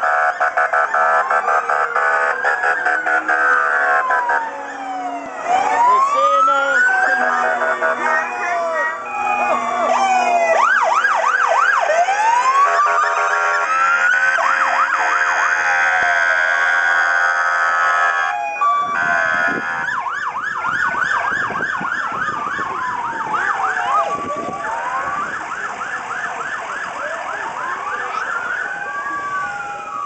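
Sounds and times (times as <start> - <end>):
emergency sirens wailing: 0.0 - 30.0.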